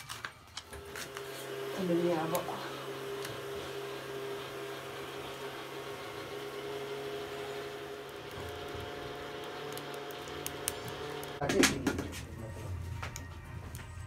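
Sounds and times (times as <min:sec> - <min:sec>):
kindling crackling: 0:00.0 - 0:14.0.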